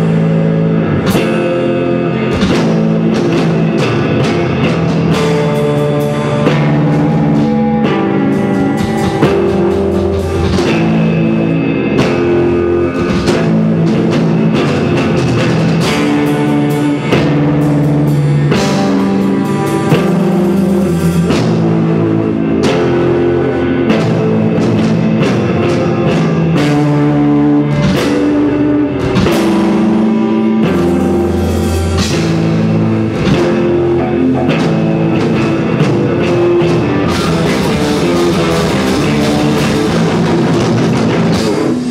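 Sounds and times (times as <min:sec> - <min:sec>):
drum kit: 0:00.0 - 0:41.9
guitar: 0:00.0 - 0:41.9.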